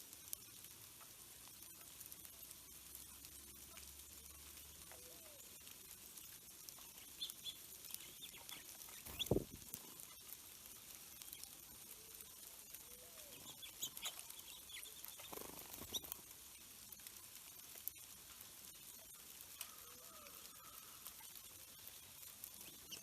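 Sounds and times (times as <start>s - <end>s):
faint bird chips and calls: 0.0s - 23.0s.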